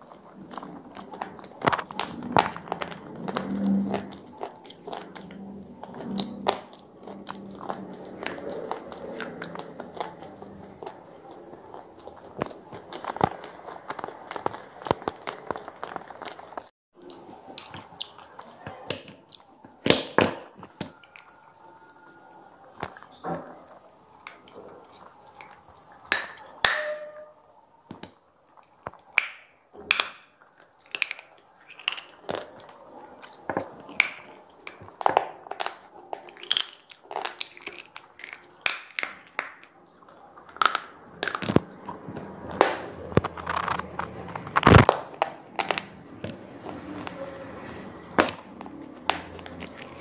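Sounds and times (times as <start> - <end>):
teeth crunching slate: 0.0 - 50.0.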